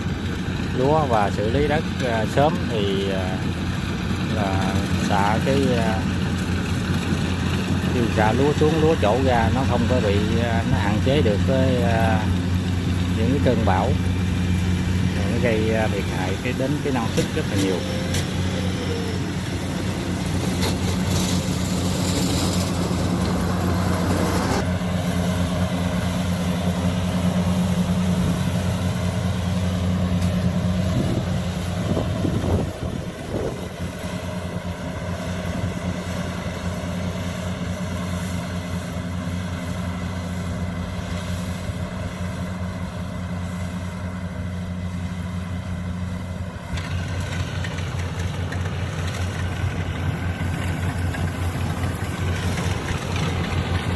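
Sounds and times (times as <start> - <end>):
diesel engine humming: 0.0 - 53.9
high-pitched engine hiss: 0.0 - 53.9.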